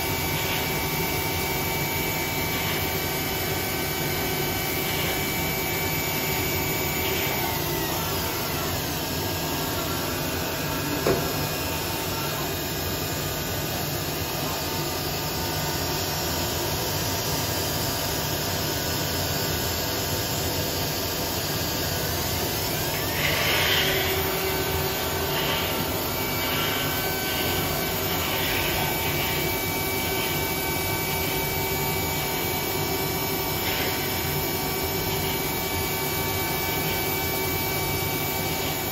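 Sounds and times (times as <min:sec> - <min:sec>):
grinding machine humming: 0:00.0 - 0:38.9.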